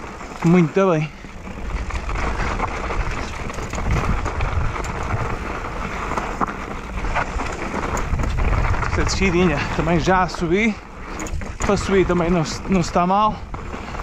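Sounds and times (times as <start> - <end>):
bike rattles and clicks: 0.0 - 14.0
bike tyres rolling on stones: 0.0 - 14.0
wind buffeting microphone: 0.0 - 14.0.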